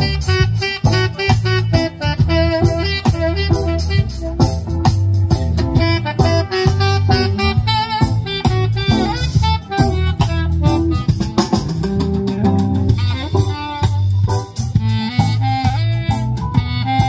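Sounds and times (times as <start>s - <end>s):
drum kit beat: 0.0s - 17.0s
electric guitar: 0.0s - 17.0s
saxophone: 0.0s - 17.0s.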